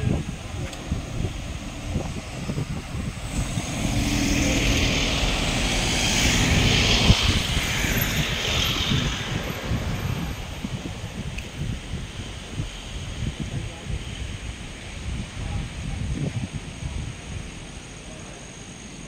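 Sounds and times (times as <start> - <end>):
vehicle passing on road: 0.0 - 19.0.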